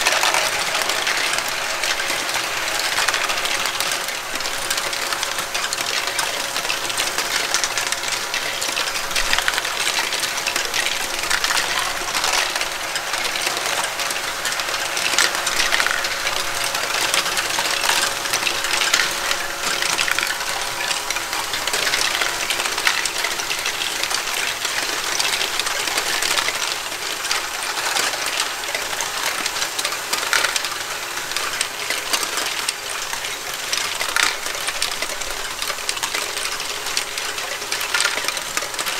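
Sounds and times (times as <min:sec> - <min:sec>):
plastic balls clattering: 0:00.0 - 0:24.2, 0:24.8 - 0:38.9.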